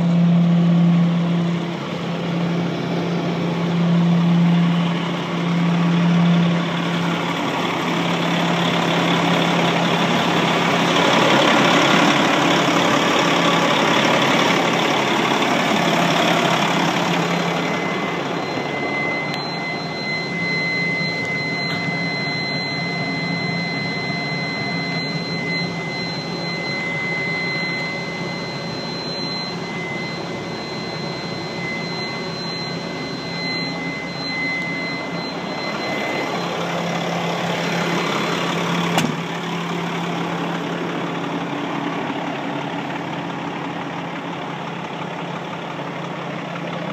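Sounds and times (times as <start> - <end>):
garbage truck engine idling: 0.0 - 46.9
high-pitched tone: 0.0 - 46.9.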